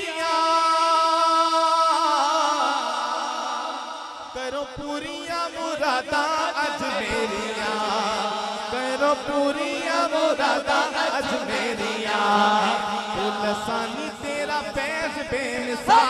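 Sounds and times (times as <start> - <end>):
man chanting over sound system: 0.0 - 16.0.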